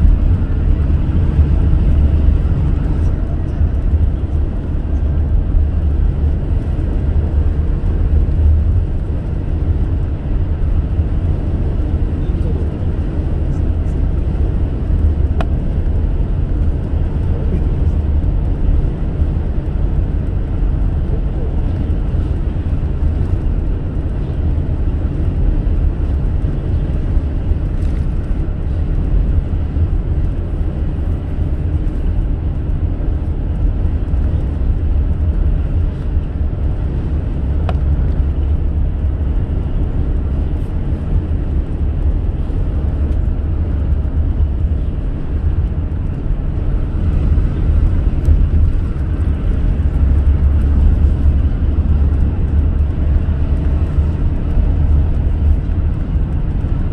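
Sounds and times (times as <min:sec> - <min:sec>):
car driving at speed: 0:00.0 - 0:56.9.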